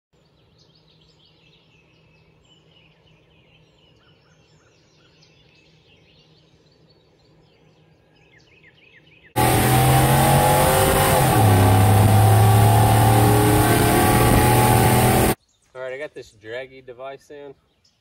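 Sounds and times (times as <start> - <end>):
birds chirping: 0.4 - 15.7.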